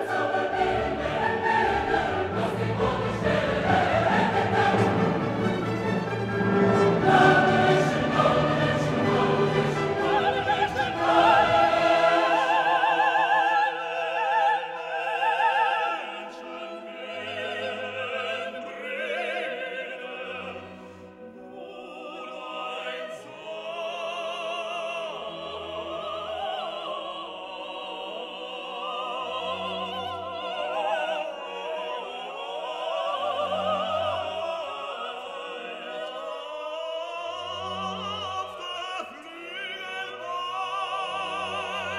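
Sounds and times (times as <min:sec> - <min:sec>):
operatic singing with orchestra: 0:00.0 - 0:41.9.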